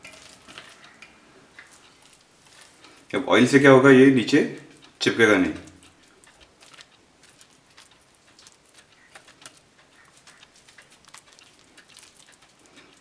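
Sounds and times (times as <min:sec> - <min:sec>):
fingers patting wet batter: 0:00.0 - 0:13.0.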